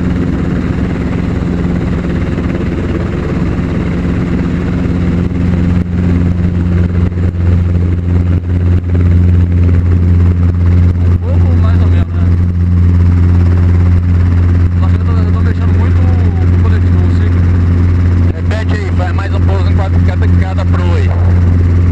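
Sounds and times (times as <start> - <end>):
helicopter drone inside cabin: 0.0 - 21.9.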